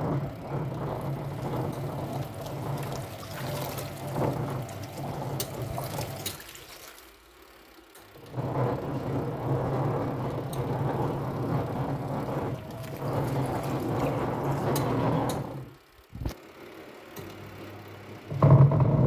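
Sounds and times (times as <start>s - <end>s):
washing machine rumbling: 0.0s - 19.0s.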